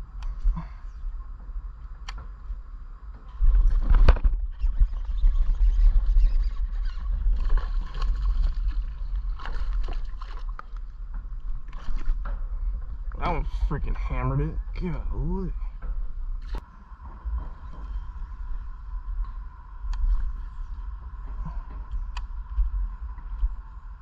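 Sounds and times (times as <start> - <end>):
low rumbling noise: 0.0 - 24.0.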